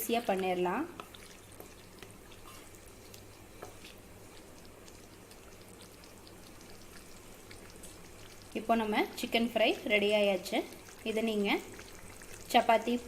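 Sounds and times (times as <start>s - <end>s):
gravy simmering in a pan: 0.0s - 13.0s.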